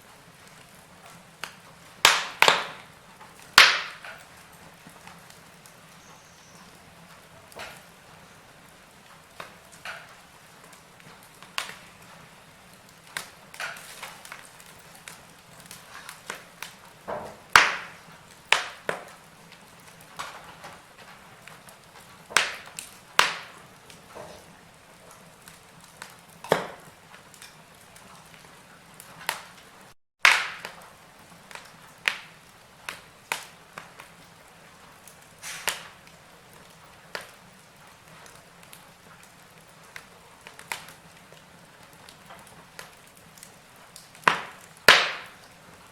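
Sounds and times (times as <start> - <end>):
faint steady hiss: 0.0 - 45.9
wood fire crackling: 0.0 - 45.9.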